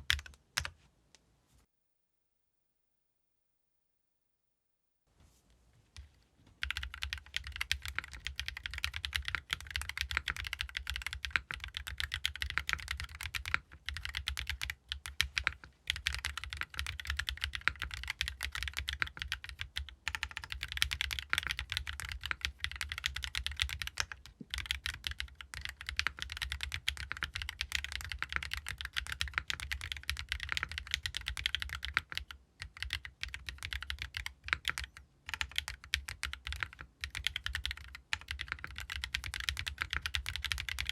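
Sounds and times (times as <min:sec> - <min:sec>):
mechanical keyboard typing: 0:00.0 - 0:00.7, 0:06.6 - 0:40.9.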